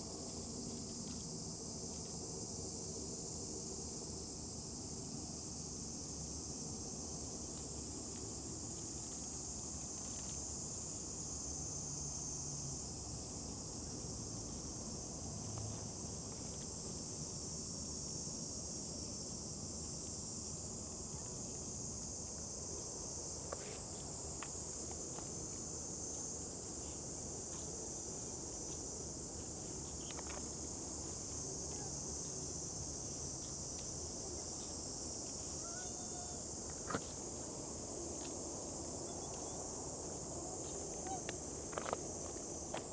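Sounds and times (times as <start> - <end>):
insect chorus drone: 0.0 - 42.9.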